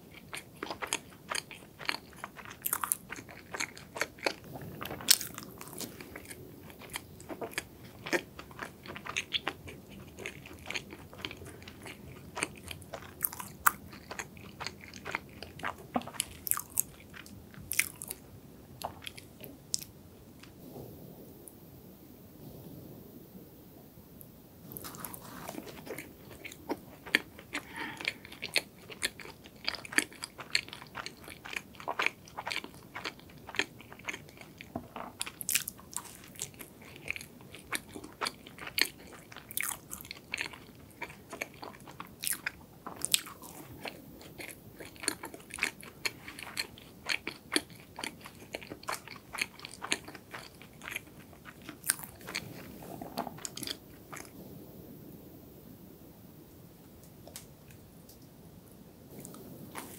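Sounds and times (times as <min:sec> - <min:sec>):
chewing donut with crisp crunches: 0:00.0 - 0:18.2, 0:18.8 - 0:20.6, 0:24.7 - 0:54.4, 0:59.1 - 0:59.9.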